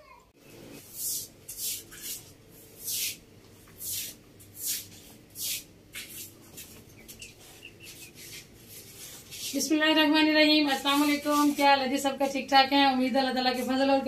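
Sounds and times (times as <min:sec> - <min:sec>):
broom sweeping a floor: 0:00.8 - 0:12.5.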